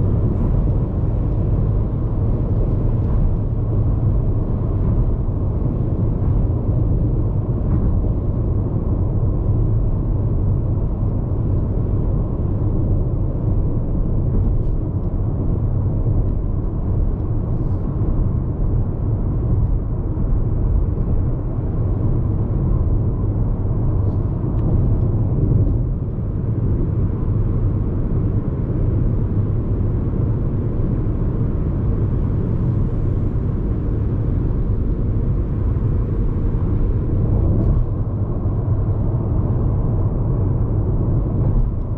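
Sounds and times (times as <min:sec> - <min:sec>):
car cabin road noise rumble: 0:00.0 - 0:41.9.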